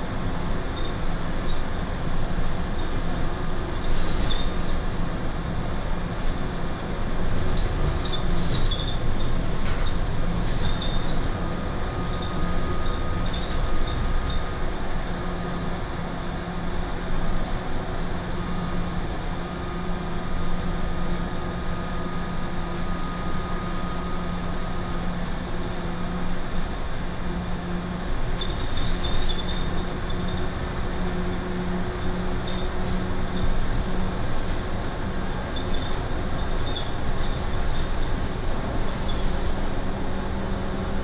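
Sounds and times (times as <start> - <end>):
bus road noise: 0.0 - 41.0.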